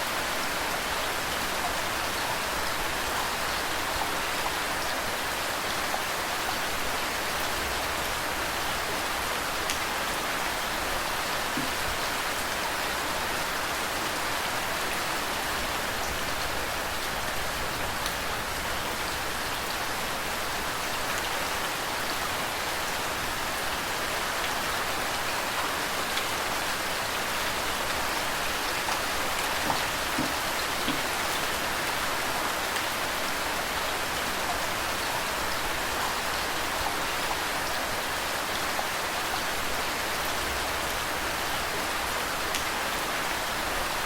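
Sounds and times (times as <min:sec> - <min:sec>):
flowing water: 0:00.0 - 0:44.0
steady rain falling: 0:00.0 - 0:44.0.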